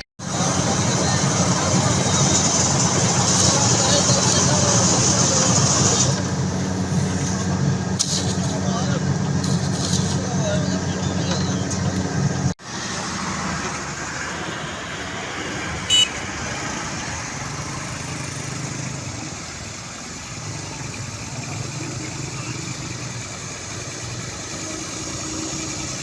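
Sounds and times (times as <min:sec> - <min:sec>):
engines running: 0:00.2 - 0:26.0.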